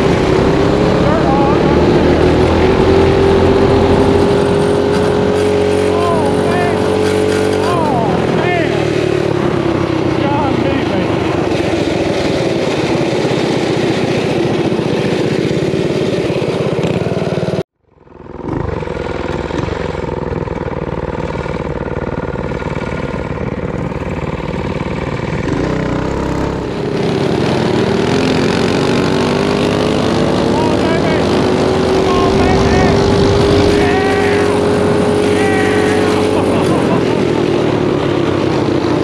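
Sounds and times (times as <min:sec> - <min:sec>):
mini bike engine running: 0:00.0 - 0:39.0.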